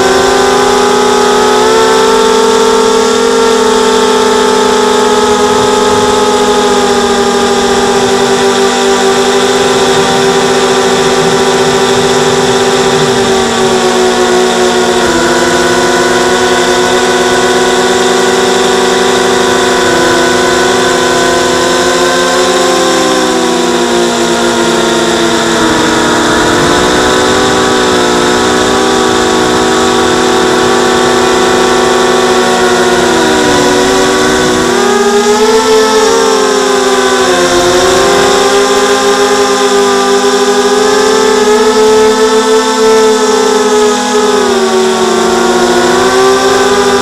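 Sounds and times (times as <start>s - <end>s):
quadcopter propellers buzzing: 0.0s - 47.0s.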